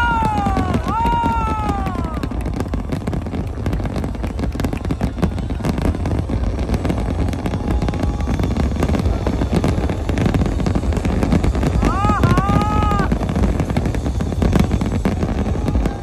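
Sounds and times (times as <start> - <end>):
firework crackling: 0.0 - 16.0
firework shells bursting: 0.0 - 16.0.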